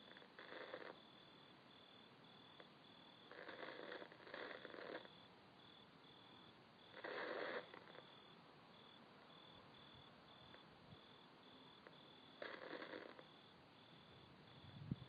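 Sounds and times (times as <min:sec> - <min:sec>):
faint cricket chirping: 0:00.0 - 0:15.0.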